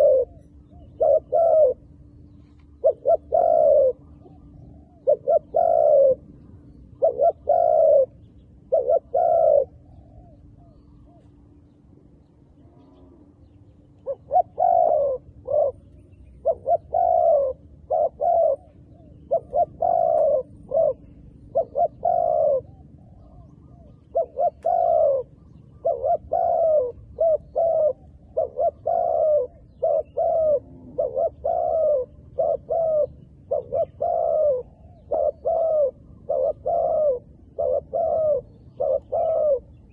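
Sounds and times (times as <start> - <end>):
dove cooing: 0.0 - 11.8, 12.5 - 39.9.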